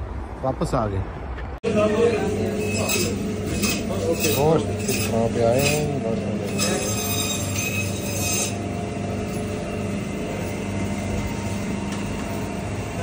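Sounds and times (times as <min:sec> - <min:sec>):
low machine hum: 0:01.6 - 0:13.0.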